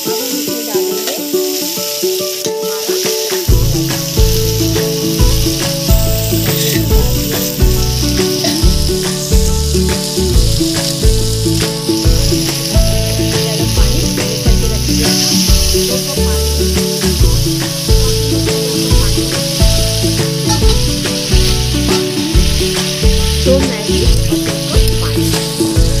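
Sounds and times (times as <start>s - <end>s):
background music with beat: 0.0s - 26.0s
food sizzling in a pan: 0.0s - 26.0s
water poured into hot pan: 0.0s - 26.0s.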